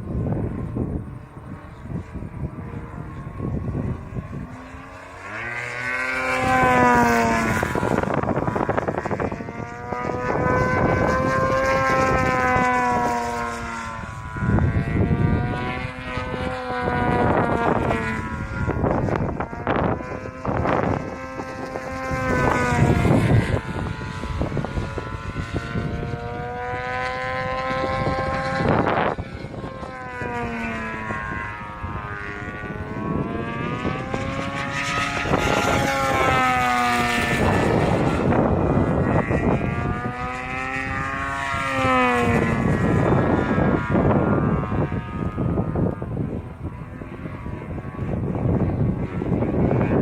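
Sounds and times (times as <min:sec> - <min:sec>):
model plane engine in flight: 0:00.0 - 0:50.0.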